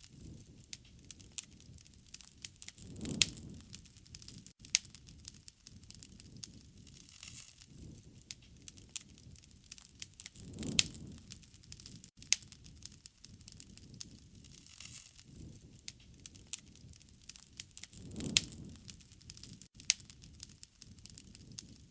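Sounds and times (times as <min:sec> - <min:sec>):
wood fire crackling and popping: 0:00.0 - 0:21.9
low rush of flame: 0:00.1 - 0:21.9.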